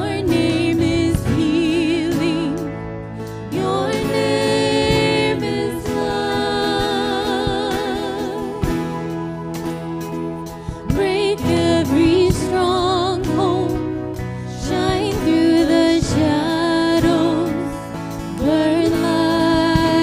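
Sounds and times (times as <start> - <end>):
women singing with vibrato: 0.0 - 9.5, 10.7 - 20.0
keyboard accompaniment: 0.0 - 20.0.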